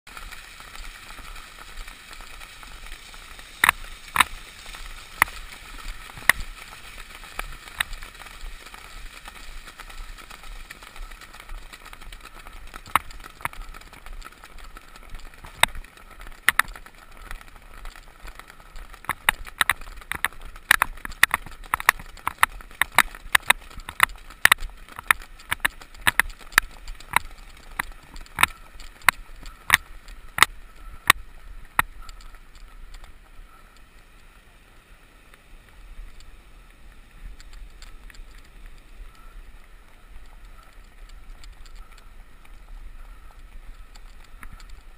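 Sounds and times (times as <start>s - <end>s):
muffled wind and water hiss: 0.1s - 44.9s.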